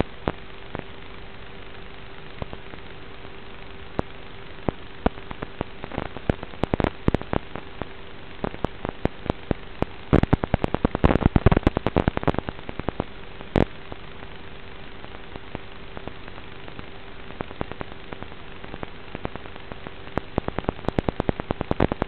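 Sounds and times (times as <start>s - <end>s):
crackles and pops: 0.0s - 22.0s
faint hum: 0.0s - 22.0s
radio static hiss: 0.0s - 22.0s.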